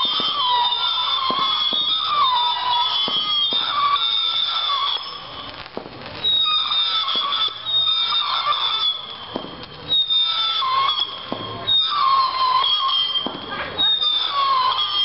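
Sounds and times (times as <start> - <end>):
firework pops: 0.0 - 15.0
firework whistles bending in pitch: 0.0 - 15.0.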